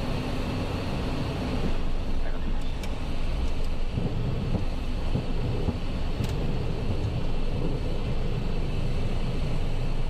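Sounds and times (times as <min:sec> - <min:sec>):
low rumble of airflow and engines: 0:00.0 - 0:10.0.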